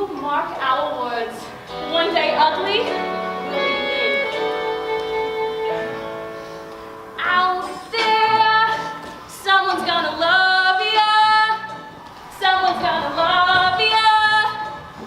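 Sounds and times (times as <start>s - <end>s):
instrumental backing: 0.0s - 15.0s.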